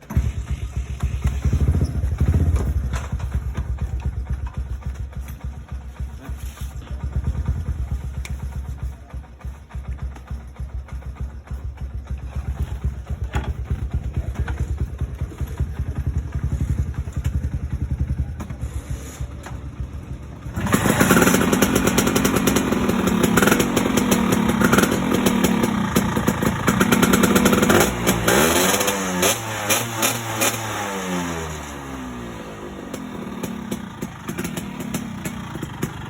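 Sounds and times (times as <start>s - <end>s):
scooter engine running: 0.0s - 36.0s.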